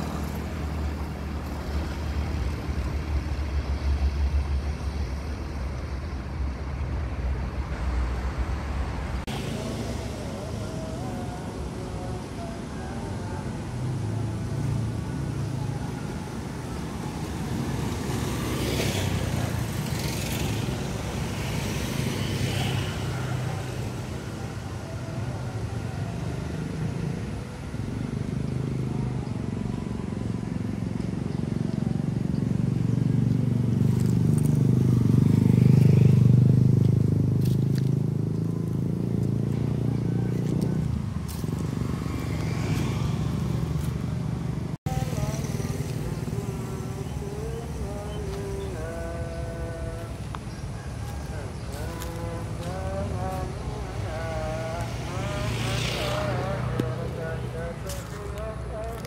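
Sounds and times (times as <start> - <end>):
motorcycle and road traffic: 0.0 - 59.0
vehicle passing: 7.1 - 59.0.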